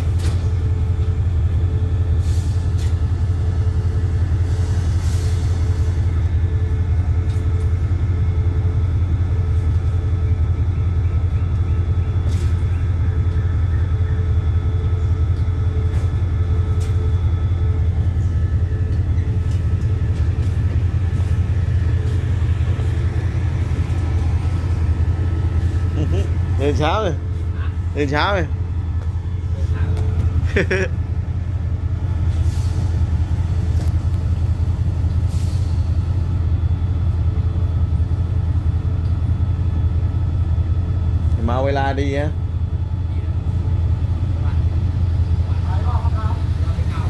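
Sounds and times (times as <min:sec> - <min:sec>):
diesel train engine idling: 0:00.0 - 0:47.0.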